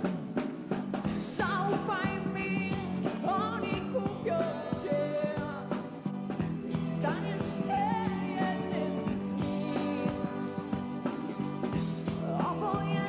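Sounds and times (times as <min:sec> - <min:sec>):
pop-rock song with singing: 0:00.0 - 0:13.0.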